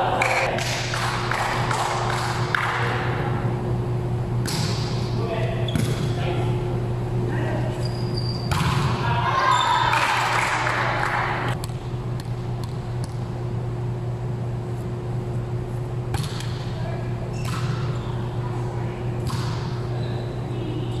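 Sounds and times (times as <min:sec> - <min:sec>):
low hum of large hall: 0:00.0 - 0:21.0.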